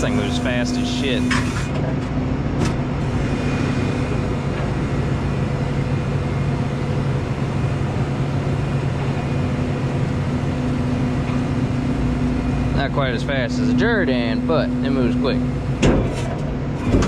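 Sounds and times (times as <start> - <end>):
truck engine humming: 0.0 - 17.0
truck hydraulic bed moving: 0.0 - 17.0.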